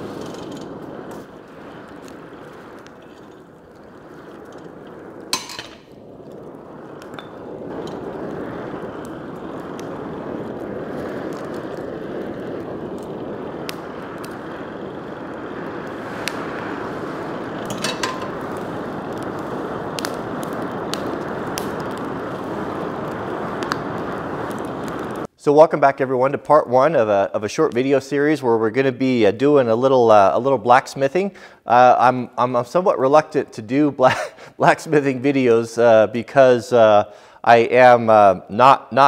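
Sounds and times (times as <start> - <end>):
burning wood crackling and popping: 0.0 - 39.0
forge fire rushing with blower: 0.0 - 39.0.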